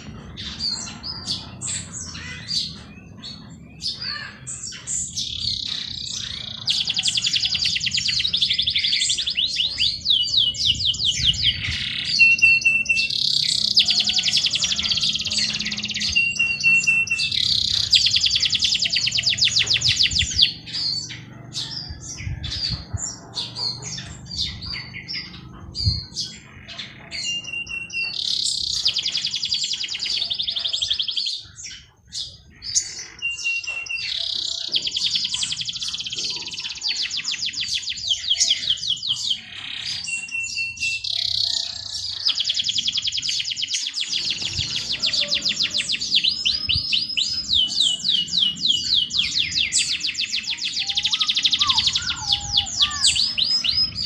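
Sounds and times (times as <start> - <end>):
bird chirps: 0.0 - 54.0
songbird fast trilled song: 0.0 - 54.0.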